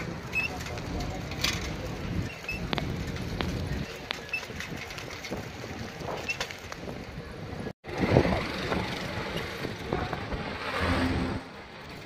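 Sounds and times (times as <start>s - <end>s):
street background noise: 0.0s - 12.0s.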